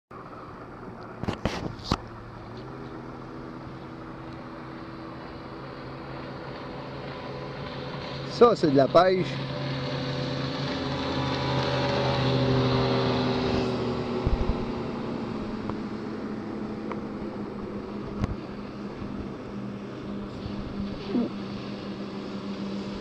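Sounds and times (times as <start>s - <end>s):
low engine hum: 0.1s - 23.0s
motorboat speeding past: 0.2s - 23.0s.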